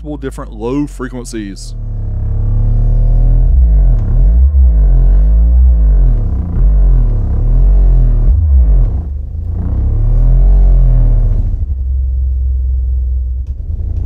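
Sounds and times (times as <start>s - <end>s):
subwoofer deep bass tones: 0.0s - 14.0s.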